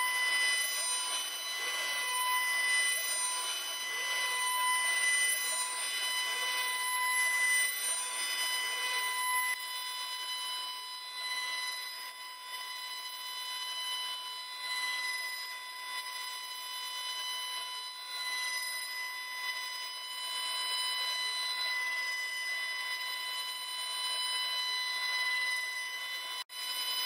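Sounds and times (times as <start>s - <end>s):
cnc router whining: 0.0s - 27.0s.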